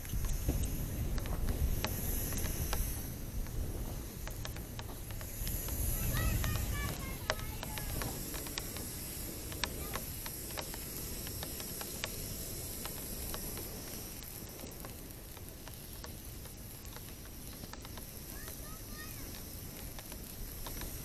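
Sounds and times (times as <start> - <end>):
wood fire hissing and crackling: 0.0 - 21.0.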